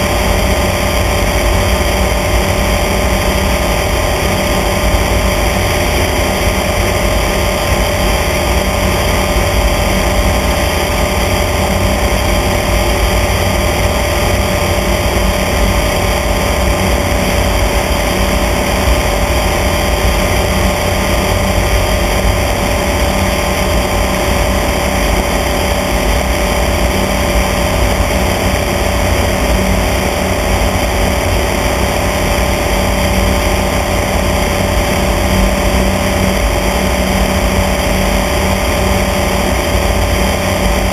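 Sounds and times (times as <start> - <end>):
propeller aircraft engine droning: 0.0 - 40.9.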